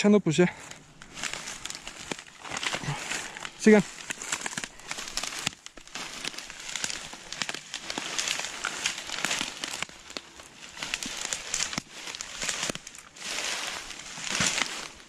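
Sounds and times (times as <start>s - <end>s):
footsteps crunching dry leaves: 0.5s - 15.0s.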